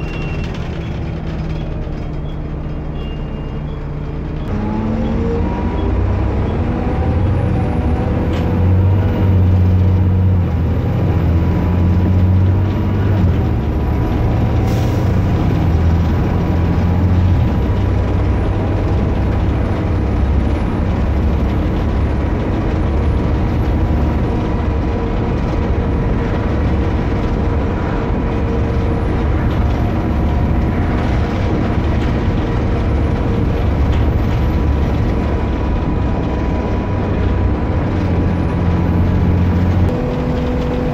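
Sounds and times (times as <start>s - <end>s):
bus engine rumble: 0.0s - 40.9s
high engine whine: 0.0s - 40.9s.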